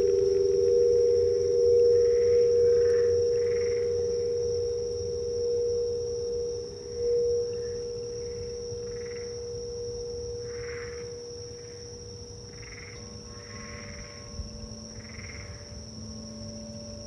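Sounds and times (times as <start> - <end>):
crystal singing bowl tone: 0.0 - 17.0
frogs croaking: 0.0 - 17.0
lower singing bowl tone: 0.0 - 17.0.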